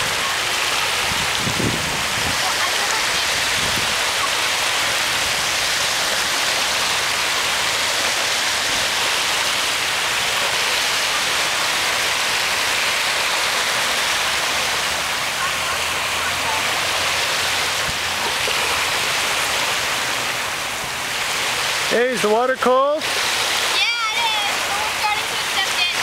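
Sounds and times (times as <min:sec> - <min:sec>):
small waves washing ashore: 0:00.0 - 0:26.0.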